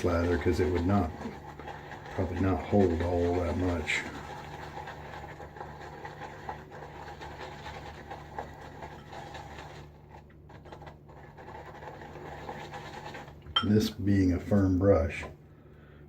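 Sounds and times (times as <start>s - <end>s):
shaving brush swishing lather: 0.0s - 13.4s.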